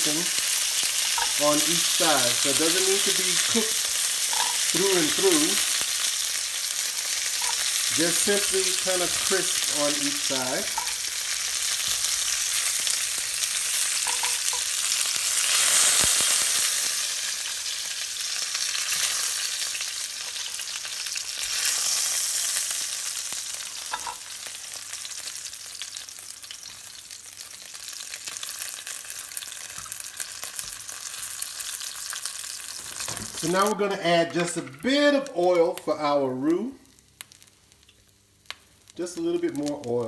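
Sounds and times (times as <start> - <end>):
chicken sizzling in oil: 0.0 - 40.0.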